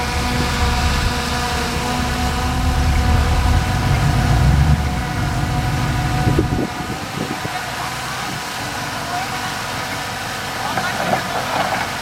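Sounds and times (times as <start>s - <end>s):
bulldozer diesel engine under load: 0.0s - 12.0s.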